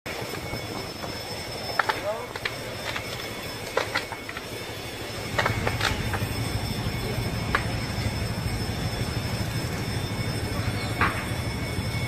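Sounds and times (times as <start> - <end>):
fire rumbling: 0.1 - 12.0
fire cracking and popping: 0.3 - 10.0.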